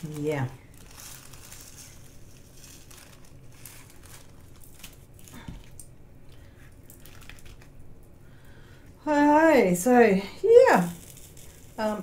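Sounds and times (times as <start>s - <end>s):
plastic bags rustling: 0.0s - 8.9s, 10.4s - 12.0s.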